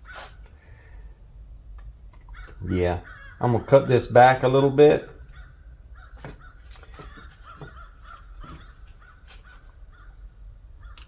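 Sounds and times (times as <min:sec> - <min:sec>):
crows cawing: 0:00.0 - 0:00.9, 0:02.3 - 0:11.0.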